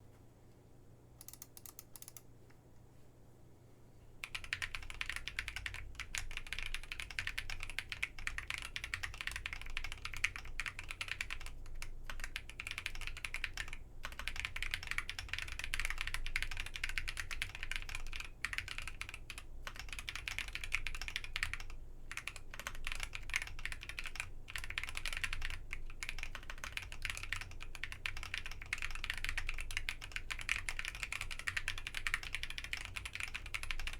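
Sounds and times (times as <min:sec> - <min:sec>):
typing on mechanical keyboard: 0:01.2 - 0:02.2, 0:04.2 - 0:33.9.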